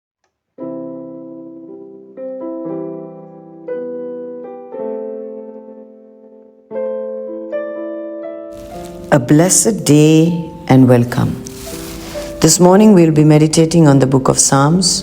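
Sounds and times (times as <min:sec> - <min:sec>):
solo piano slow chords: 0:00.6 - 0:15.0.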